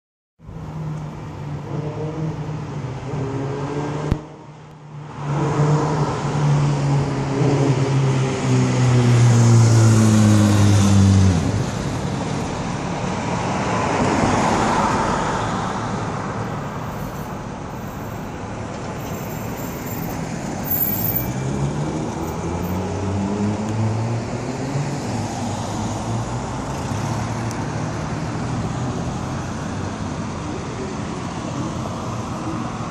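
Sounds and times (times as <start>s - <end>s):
traffic passing: 0.4s - 32.9s.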